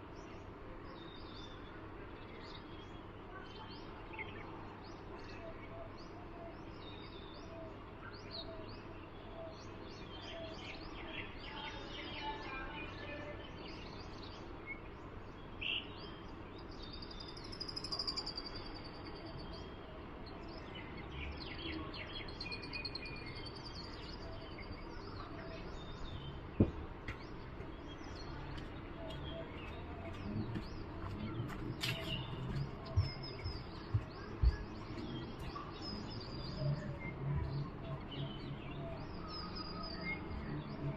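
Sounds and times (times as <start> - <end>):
birds chirping: 0.0 - 40.9
steady background noise: 0.0 - 40.9.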